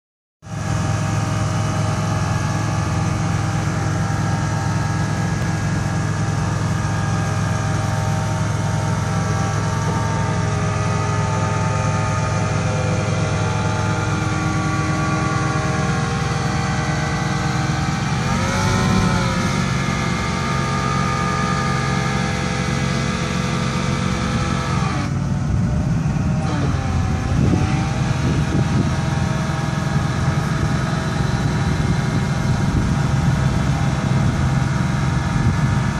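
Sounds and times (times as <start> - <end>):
forklift engine running: 0.4 - 35.9.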